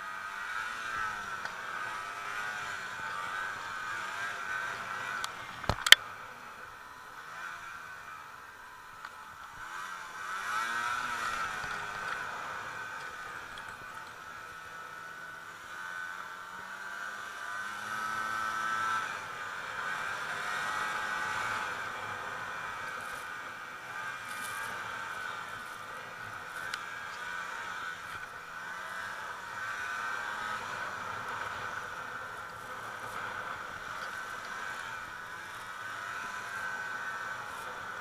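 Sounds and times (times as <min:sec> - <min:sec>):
snowmobile engine running: 0:00.0 - 0:38.0.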